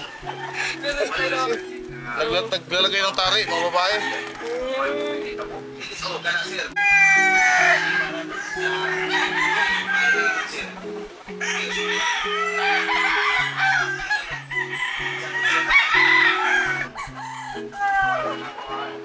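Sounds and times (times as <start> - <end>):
background music of low notes: 0.0 - 19.0
roosters crowing: 0.0 - 19.0.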